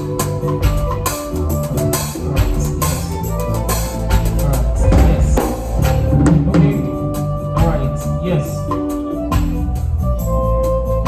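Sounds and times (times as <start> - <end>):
band playing sustained notes: 0.0 - 11.0
drums and percussion beat: 0.0 - 11.0.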